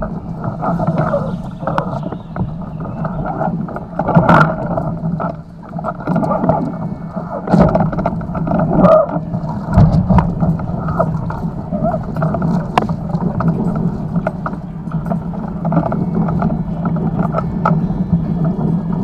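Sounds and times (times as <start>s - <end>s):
muffled wind and water rush: 0.0s - 19.0s.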